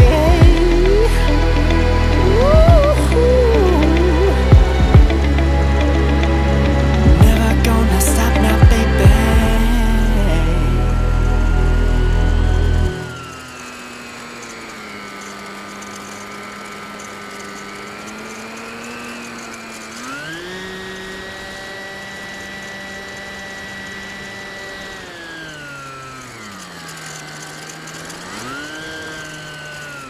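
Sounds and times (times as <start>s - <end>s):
model plane motor whining: 0.0s - 30.0s.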